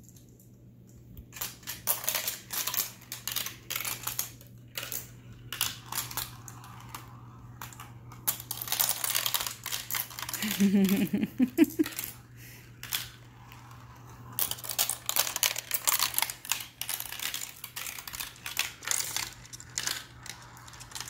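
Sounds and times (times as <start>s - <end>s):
marbles clattering down plastic run: 1.4s - 21.0s.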